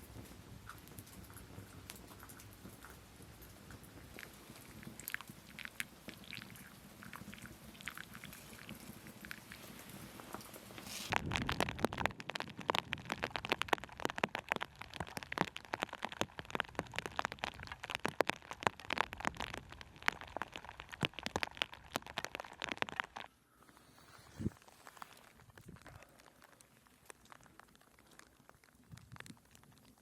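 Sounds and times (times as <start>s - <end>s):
dense crackling ticks and pops: 0.0s - 30.0s.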